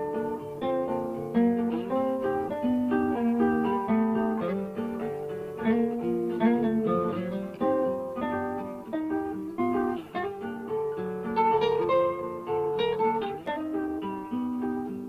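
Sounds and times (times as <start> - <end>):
classical guitar melody: 0.0 - 15.0.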